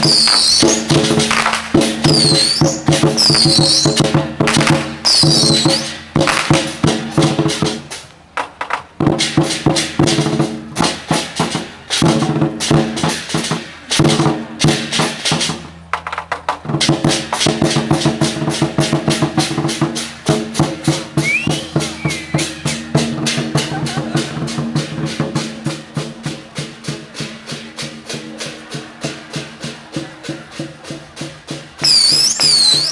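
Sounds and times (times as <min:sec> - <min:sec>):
drums and cymbals beating: 0:00.0 - 0:32.9.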